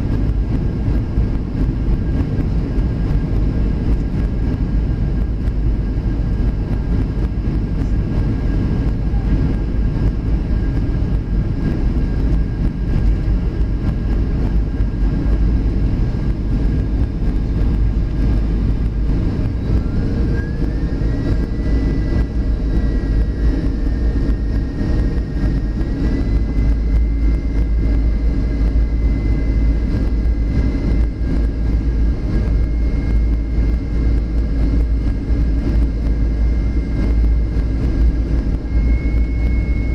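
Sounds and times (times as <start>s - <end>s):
aircraft cabin engine roar: 0.0s - 39.9s
thin whine: 0.0s - 39.9s.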